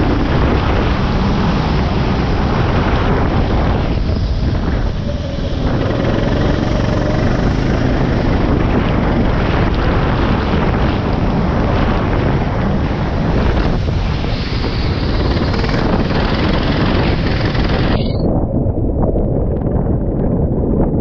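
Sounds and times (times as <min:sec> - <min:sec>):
go-kart engine roaring: 0:00.0 - 0:18.0
wind on microphone: 0:00.0 - 0:21.0.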